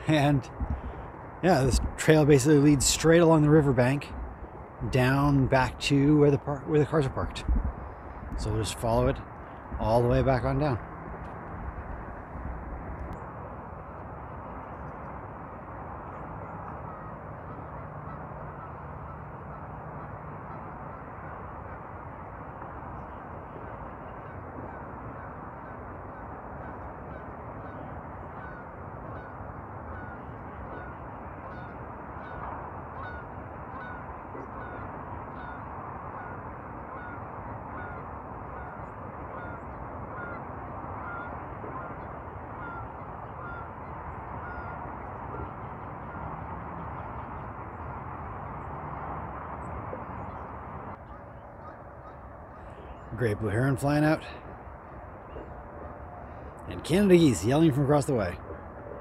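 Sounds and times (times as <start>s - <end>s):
geese honking faintly: 4.9s - 59.0s.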